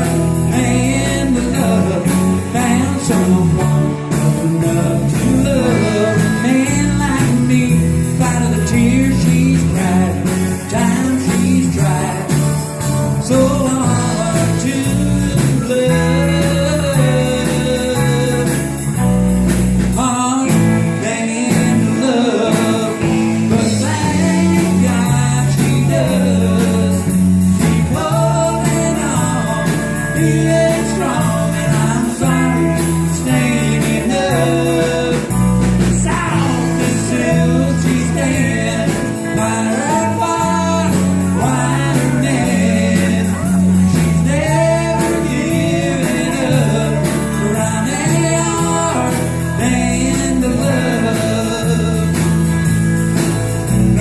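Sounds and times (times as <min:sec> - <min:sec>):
instrumental country band music: 0:00.0 - 0:54.0.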